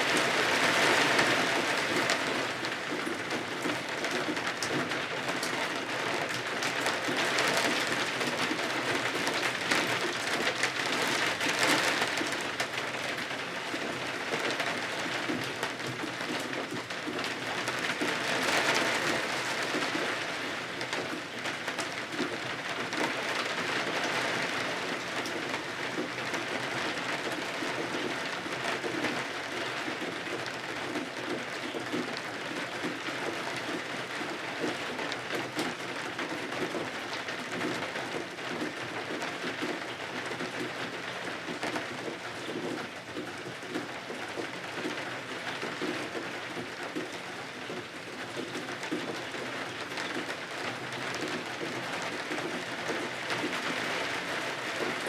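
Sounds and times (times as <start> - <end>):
rain pattering on window glass: 0.0 - 55.0.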